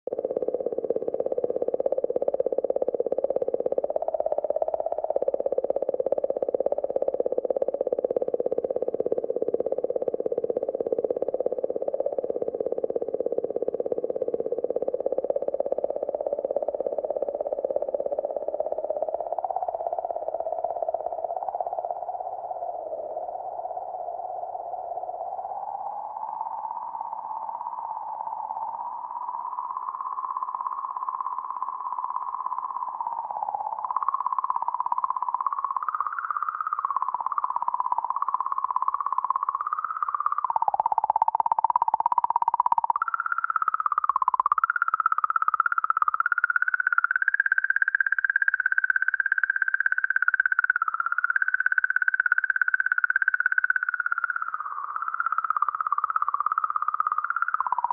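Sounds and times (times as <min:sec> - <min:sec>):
warbling electronic tone: 0:00.1 - 0:57.9.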